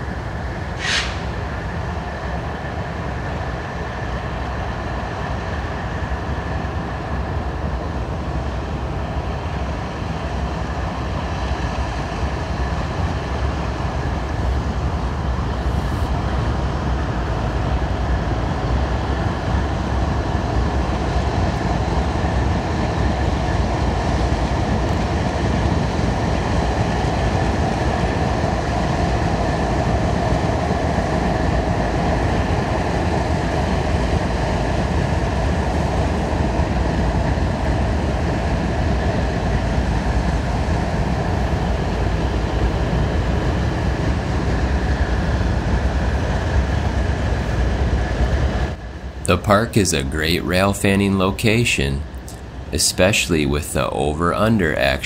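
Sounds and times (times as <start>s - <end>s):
train wheels rumbling on rail: 0.0s - 49.2s.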